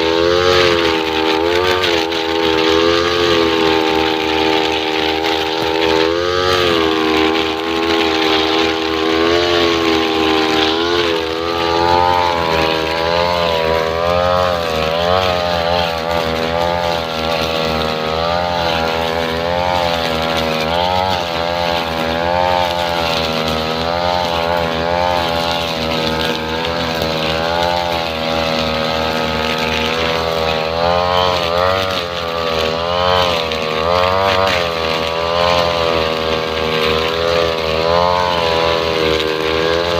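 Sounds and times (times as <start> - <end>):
brush cutter engine: 0.0 - 39.9
trimmer line cutting grass: 0.0 - 39.9.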